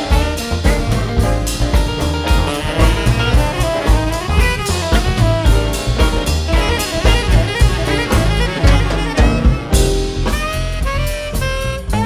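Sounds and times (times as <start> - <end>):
drum kit and bass: 0.0 - 12.0
saxophones playing together: 2.3 - 12.0.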